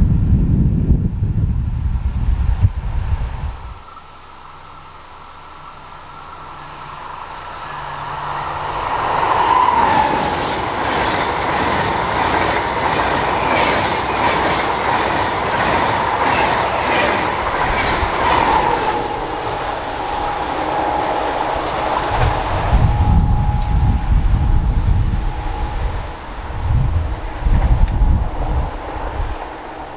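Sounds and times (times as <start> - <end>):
steady high whine: 0.9 - 29.9
electric train passing: 1.1 - 29.9
wheels clacking over rails: 5.5 - 29.9.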